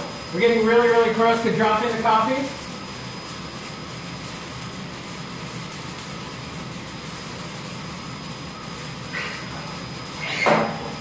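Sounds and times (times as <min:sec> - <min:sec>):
coffee roaster whirring hum: 0:00.0 - 0:11.0.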